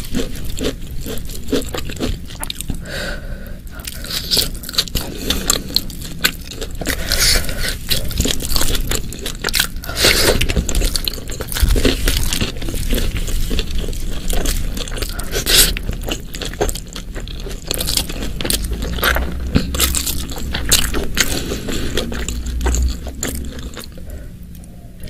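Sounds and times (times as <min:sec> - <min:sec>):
biting and chewing food: 0:00.0 - 0:02.9, 0:03.7 - 0:25.0.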